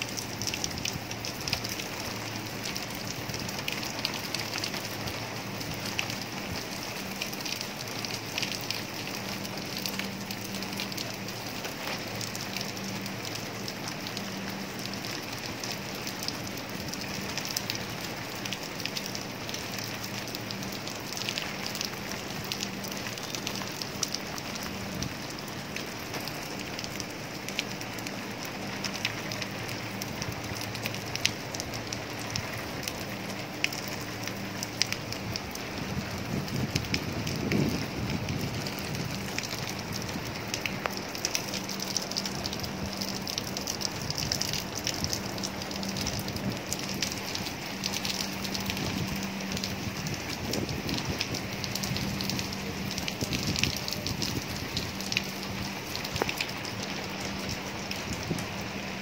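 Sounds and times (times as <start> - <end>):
low steady hum: 0.0 - 59.0
rain on paving and water: 0.0 - 59.0.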